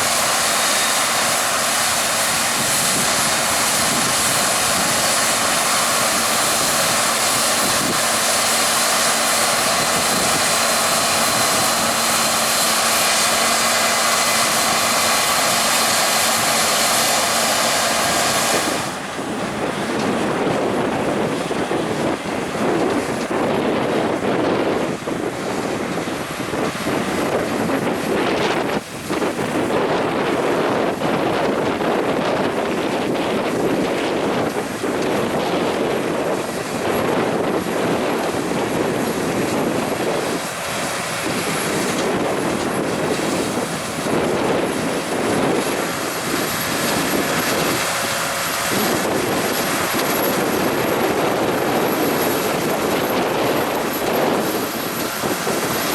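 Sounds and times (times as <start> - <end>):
heavy farm machinery running: 0.0 - 55.9.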